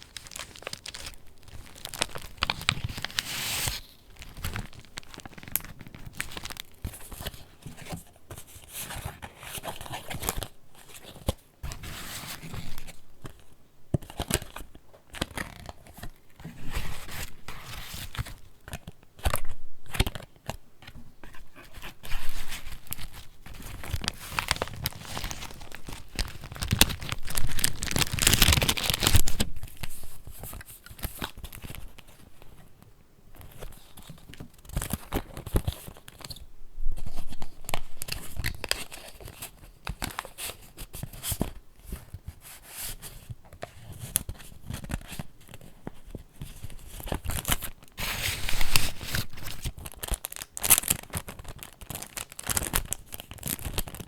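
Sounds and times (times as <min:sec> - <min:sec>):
paper rustling and crinkling: 0:00.0 - 0:13.5, 0:14.1 - 0:32.6, 0:37.0 - 0:54.0.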